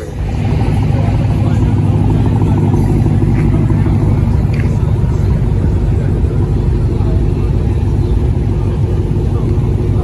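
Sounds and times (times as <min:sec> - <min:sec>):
background voices: 0:00.0 - 0:10.0
car engine idling: 0:00.0 - 0:10.0.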